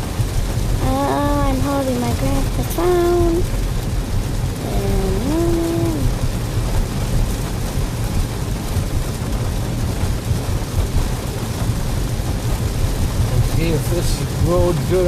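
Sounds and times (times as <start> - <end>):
heavy rain on a car: 0.0 - 15.0
low rumble: 0.0 - 15.0.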